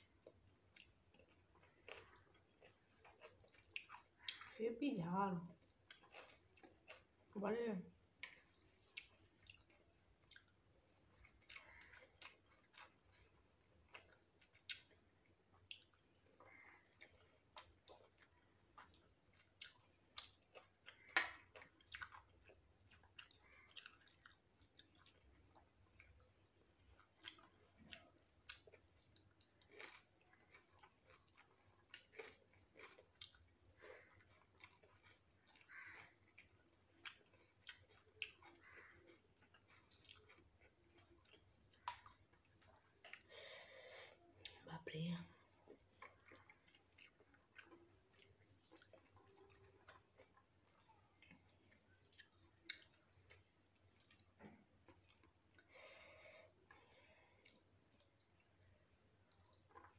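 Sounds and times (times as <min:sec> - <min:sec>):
chewing and mouth smacks: 0:00.0 - 0:04.6, 0:05.4 - 0:07.3, 0:08.1 - 0:43.5, 0:44.1 - 0:59.9.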